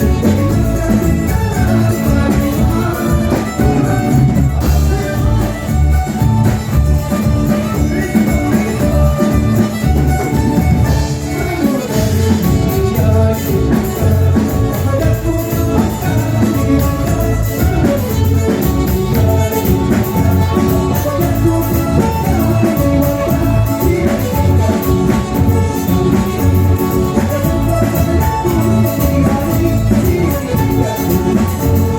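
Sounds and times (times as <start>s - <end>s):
loud music with regular beat: 0.0s - 31.9s.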